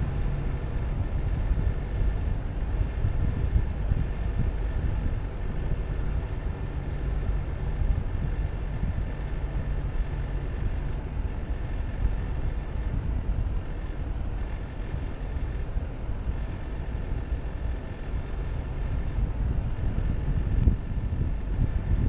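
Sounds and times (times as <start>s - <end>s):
vehicle engine and tyre rumble: 0.0s - 22.0s
wind buffeting microphone: 0.0s - 22.0s.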